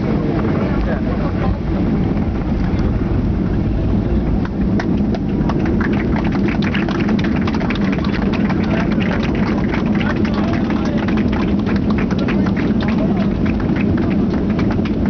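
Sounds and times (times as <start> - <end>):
aircraft engines and airflow roar: 0.0 - 15.0.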